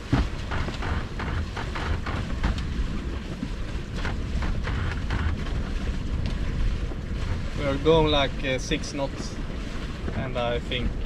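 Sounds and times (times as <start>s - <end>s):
water splashing along hull: 0.0s - 11.0s
wind buffeting microphone: 0.0s - 11.0s.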